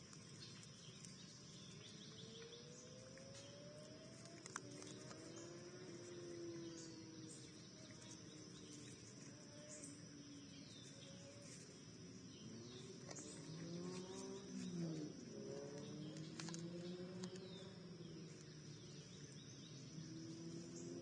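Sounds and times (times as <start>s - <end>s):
bird chirps: 0.0s - 21.0s
high insect drone: 0.0s - 21.0s
low wavering hum: 0.0s - 21.0s.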